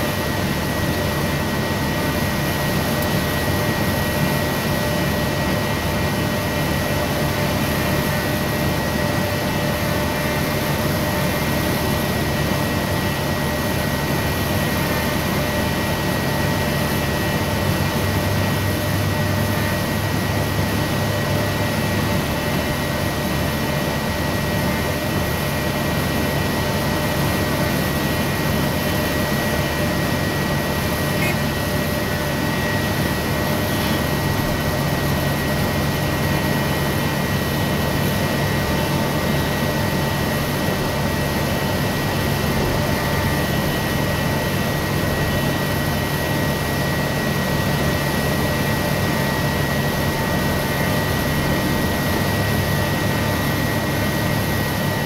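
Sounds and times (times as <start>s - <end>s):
forklift engine running: 0.0s - 55.0s
steady whine: 0.0s - 55.0s.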